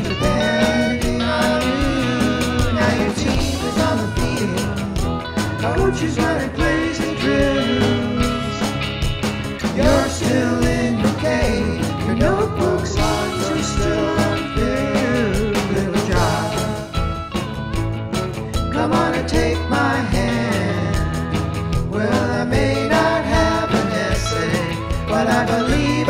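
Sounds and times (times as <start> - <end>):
keyboard: 0.0 - 26.0
rock song with singer: 0.0 - 26.0
steady drum beat: 0.0 - 26.0.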